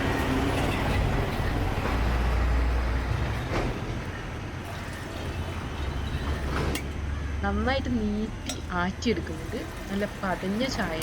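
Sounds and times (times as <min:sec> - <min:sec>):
passing vehicle rumble: 0:00.0 - 0:09.5
road traffic: 0:00.0 - 0:11.0.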